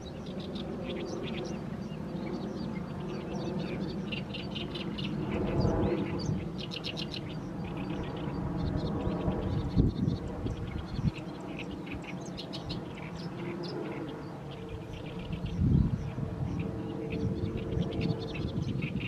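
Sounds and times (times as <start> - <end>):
reed warbler singing: 0.0 - 19.0
steady low rumble: 0.0 - 19.0.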